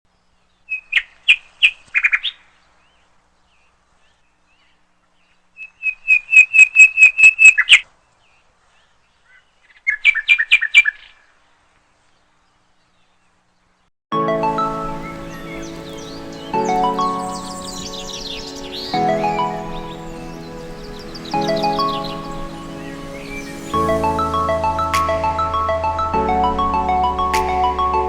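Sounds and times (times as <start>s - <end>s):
bird chirping: 0.1s - 28.0s.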